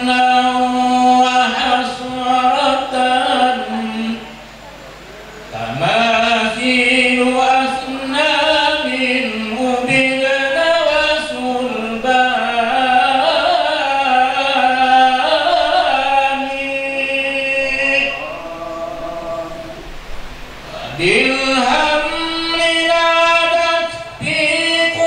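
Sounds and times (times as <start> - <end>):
unaccompanied devotional chanting: 0.0 - 25.0.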